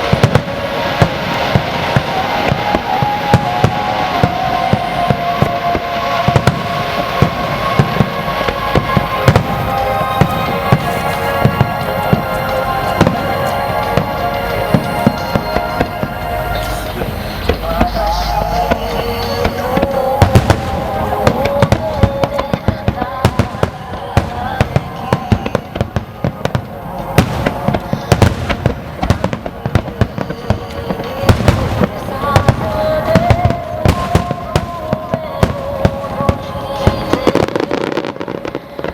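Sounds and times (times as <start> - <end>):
fireworks bursting: 0.0 - 38.9
music with long held notes: 0.0 - 38.9.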